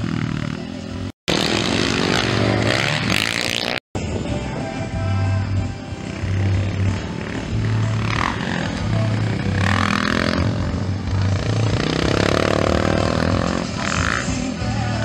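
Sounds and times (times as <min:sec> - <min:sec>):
motocross bike engines revving: 0:00.0 - 0:03.8, 0:04.8 - 0:15.0.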